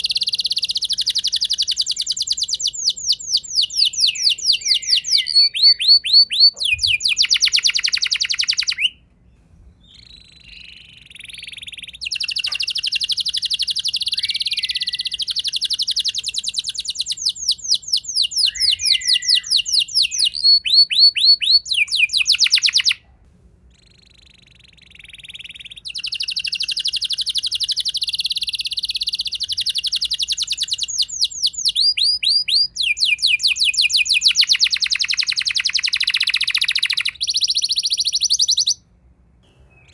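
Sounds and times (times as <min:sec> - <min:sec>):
canary singing trills: 0:00.0 - 0:09.0, 0:09.8 - 0:23.0, 0:23.7 - 0:38.8.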